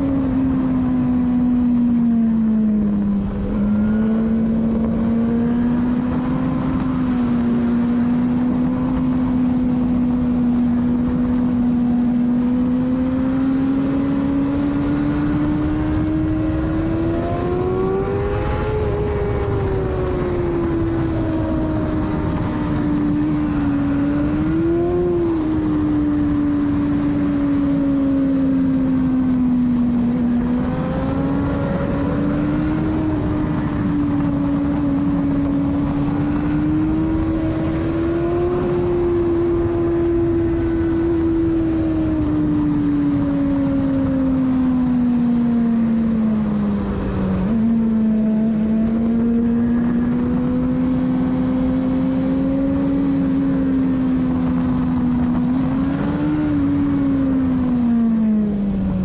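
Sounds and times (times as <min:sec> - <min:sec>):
motorcycle engine high revs: 0:00.0 - 0:58.8
wind rush: 0:00.0 - 0:59.0.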